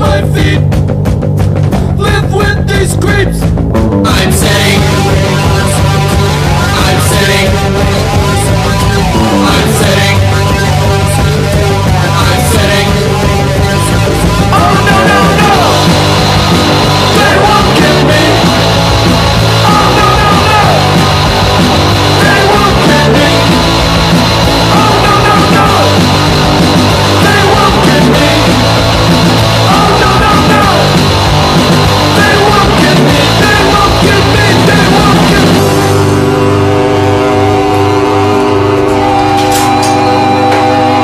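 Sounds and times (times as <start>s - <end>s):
rock music with singing: 0.0s - 41.0s.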